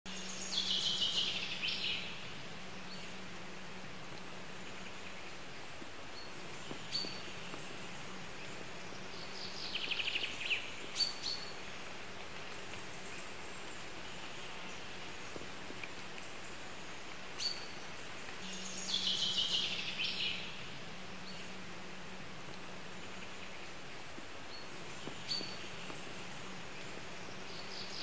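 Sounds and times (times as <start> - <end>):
bird calls and trills: 0.1 - 28.0
outdoor background hiss: 0.1 - 28.0.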